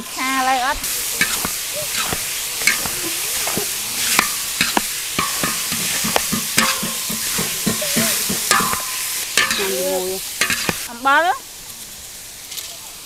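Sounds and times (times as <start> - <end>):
metal spatulas scraping a pan: 0.0 - 10.9
meat sizzling in a wok: 0.0 - 13.0.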